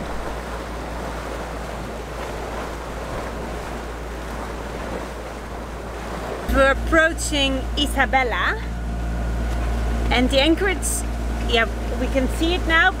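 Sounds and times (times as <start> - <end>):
water washing along boat hull: 0.0 - 13.0.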